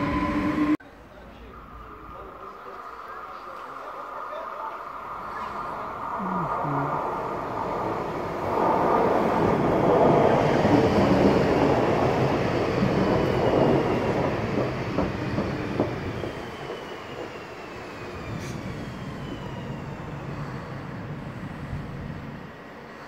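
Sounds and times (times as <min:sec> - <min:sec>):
train wheels rumbling on rails: 0:02.5 - 0:23.0.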